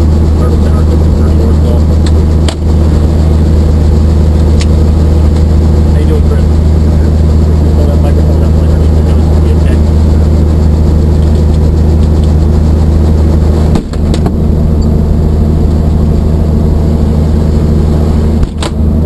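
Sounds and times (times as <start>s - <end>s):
helicopter engine and rotor idling: 0.0s - 19.0s.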